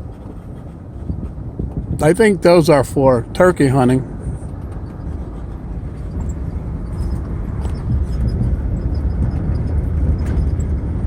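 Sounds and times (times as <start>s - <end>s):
vehicle rumbling on bumpy road: 0.0s - 11.0s.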